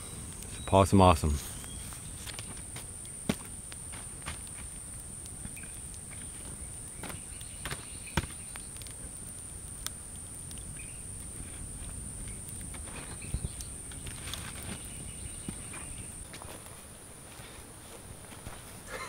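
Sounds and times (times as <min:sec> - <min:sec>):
campfire crackling and snapping: 0:00.0 - 0:18.9.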